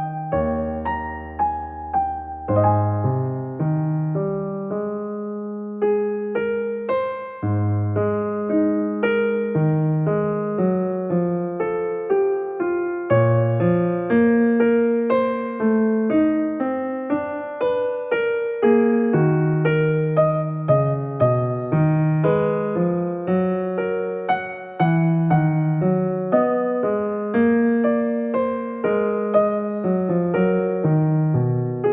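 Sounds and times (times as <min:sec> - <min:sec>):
slow gentle piano music: 0:00.0 - 0:31.9.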